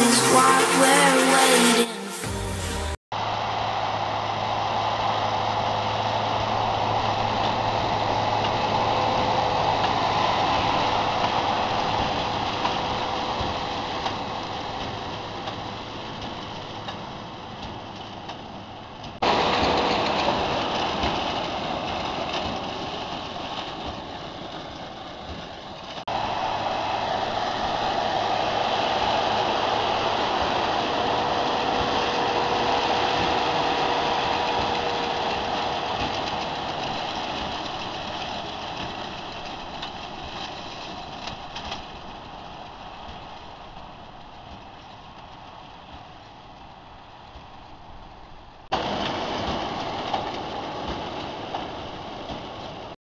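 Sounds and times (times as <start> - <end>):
tractor diesel engine under load: 0.0 - 46.3, 48.6 - 53.0.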